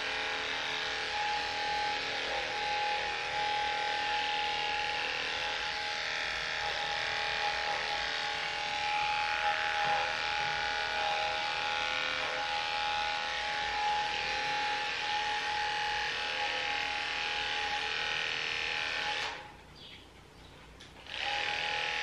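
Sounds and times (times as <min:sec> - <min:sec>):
electric clippers humming: 0:00.0 - 0:19.6, 0:20.8 - 0:22.0.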